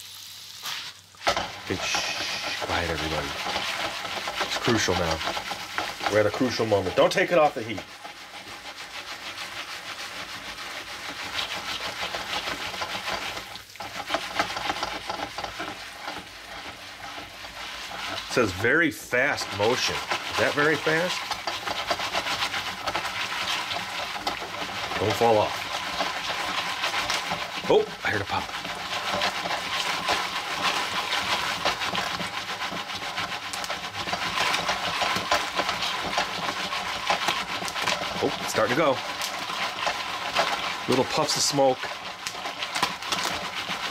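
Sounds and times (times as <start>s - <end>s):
popcorn kernels popping: 0.0s - 8.1s, 10.3s - 43.9s
foil pan sizzling on stove: 0.0s - 43.9s
pan scraping on burner: 0.0s - 43.9s.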